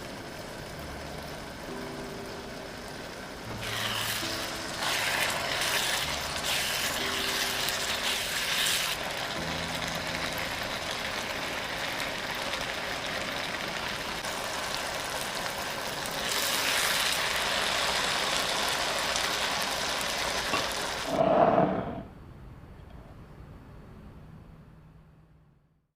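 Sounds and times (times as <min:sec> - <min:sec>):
chicken sizzling in hot oil: 0:00.0 - 0:21.2.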